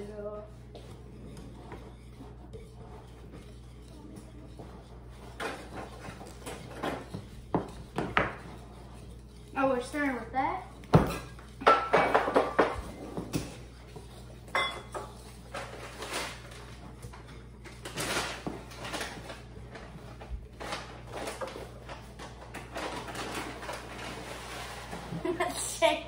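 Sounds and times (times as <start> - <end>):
whisk stirring batter in bowl: 0.0 - 26.0.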